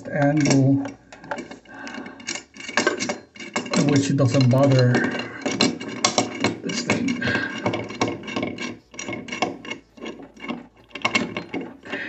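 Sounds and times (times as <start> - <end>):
nut clicking and scraping on threads: 0.0 - 12.0.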